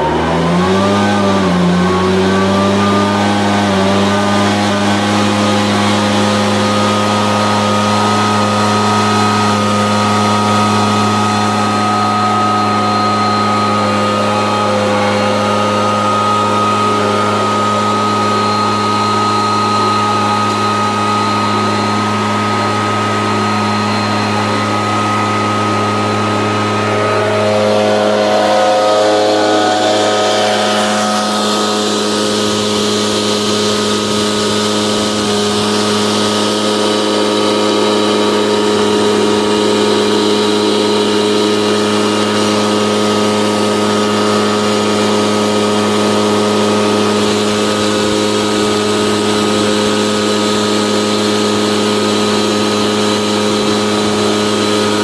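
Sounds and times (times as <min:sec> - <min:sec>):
blower fan rushing: 0:00.0 - 0:55.0
leaf blower engine running: 0:00.0 - 0:55.0.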